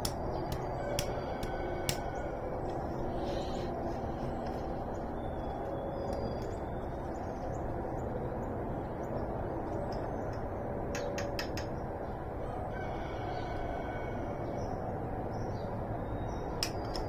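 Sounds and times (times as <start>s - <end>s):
steady background rush: 0.0s - 17.0s.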